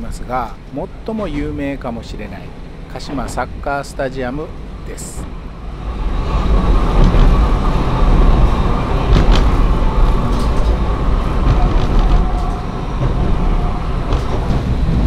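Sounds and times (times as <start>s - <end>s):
railcar engine and wheels rumble: 0.0s - 15.0s.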